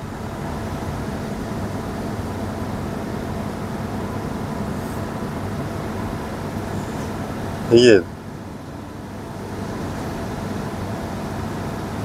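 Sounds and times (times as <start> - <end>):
vehicle idling hum: 0.0 - 12.0.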